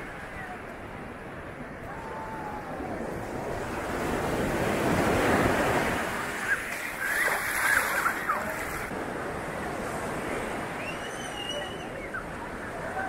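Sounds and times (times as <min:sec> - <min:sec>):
ocean surf on a beach: 0:00.0 - 0:13.0.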